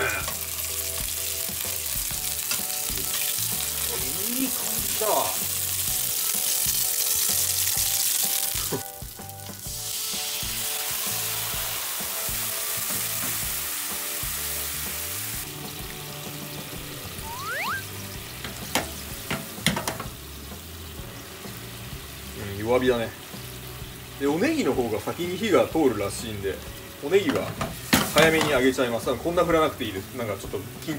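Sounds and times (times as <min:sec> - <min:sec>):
fish frying in oil: 0:00.0 - 0:30.9
sauce bubbling and sizzling: 0:00.0 - 0:30.9.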